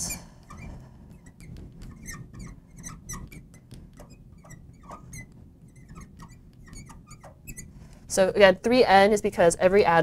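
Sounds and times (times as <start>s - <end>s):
marker squeaking on glass: 0.0s - 8.0s.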